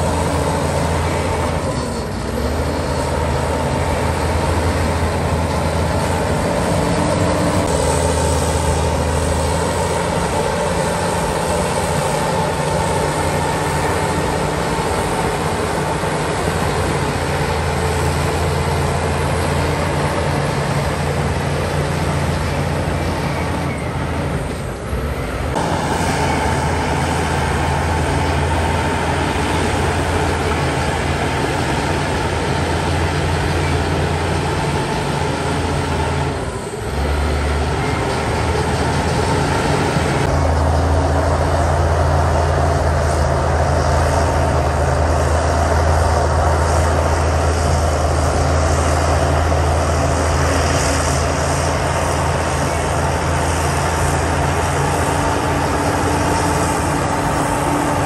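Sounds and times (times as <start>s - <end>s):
diesel machinery engine hum: 0.0s - 58.0s.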